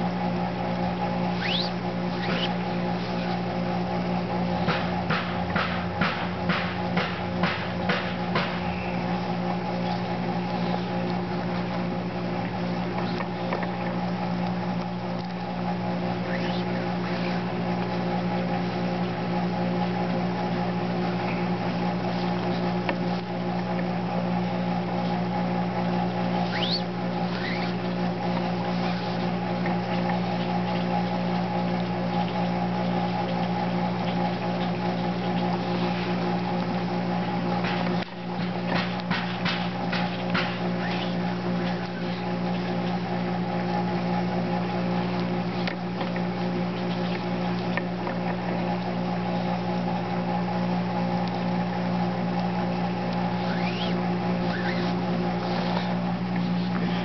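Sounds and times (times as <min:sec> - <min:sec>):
steady machine drone: 0:00.0 - 0:57.0.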